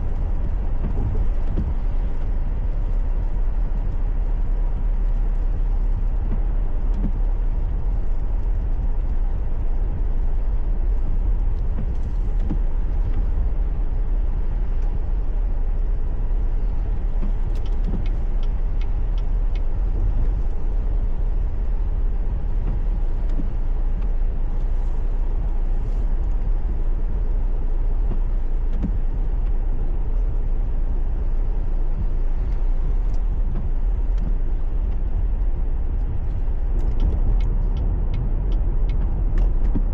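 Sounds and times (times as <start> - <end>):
car driving rumble from inside: 0.0 - 39.9.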